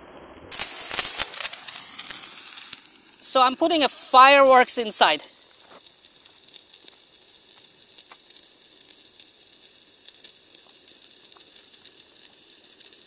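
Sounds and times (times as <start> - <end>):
fire crackling: 0.5 - 13.0
fire hissing: 0.5 - 13.0.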